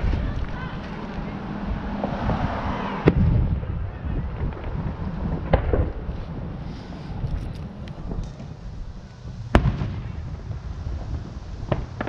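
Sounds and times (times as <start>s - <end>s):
fireworks booming: 0.0s - 12.0s
low background rumble: 0.0s - 12.0s.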